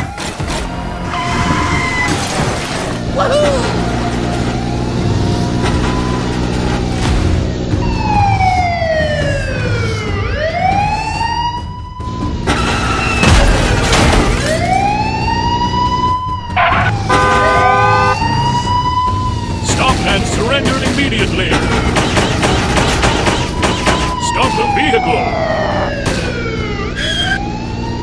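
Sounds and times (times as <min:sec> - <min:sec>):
siren wailing: 0:00.0 - 0:13.4, 0:14.3 - 0:20.6, 0:23.1 - 0:28.0.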